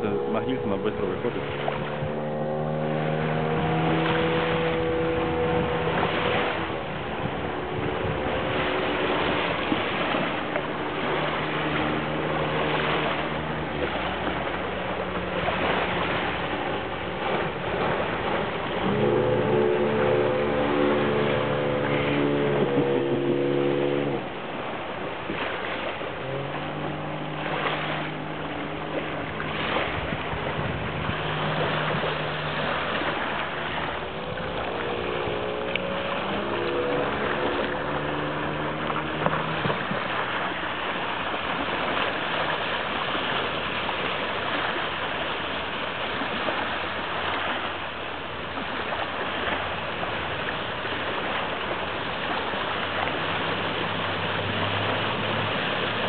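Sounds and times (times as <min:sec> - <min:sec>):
outboard motor running: 0:00.0 - 0:56.0
rush of water and wind: 0:00.0 - 0:56.0.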